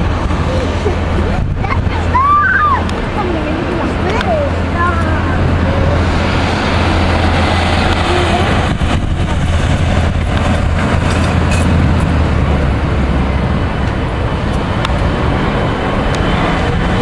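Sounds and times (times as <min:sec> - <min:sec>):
jet engines rushing and rumbling: 0:00.0 - 0:17.0.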